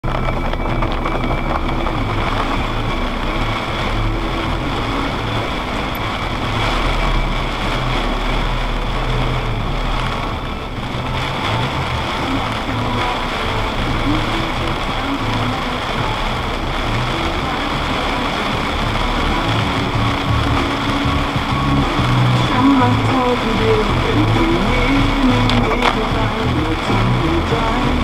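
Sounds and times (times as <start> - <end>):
car engine rumble: 0.0 - 28.0.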